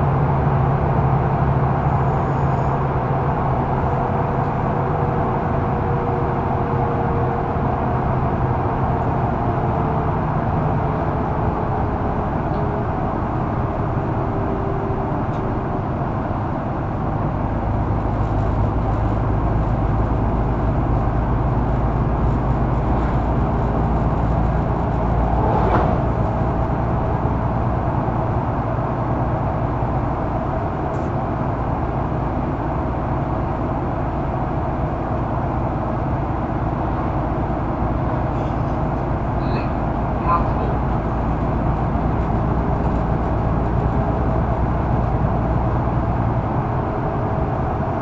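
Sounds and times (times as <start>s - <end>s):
bus engine rumble: 0.0s - 48.0s
road noise: 0.0s - 48.0s.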